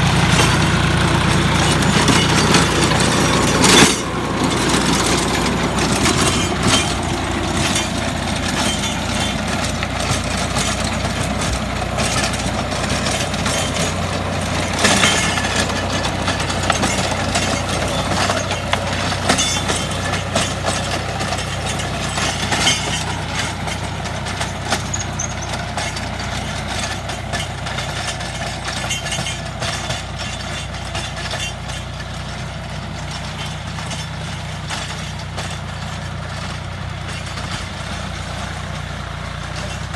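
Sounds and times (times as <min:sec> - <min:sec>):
tiller blades knocking and clattering: 0:00.0 - 0:39.9
tractor diesel engine running: 0:00.0 - 0:39.9.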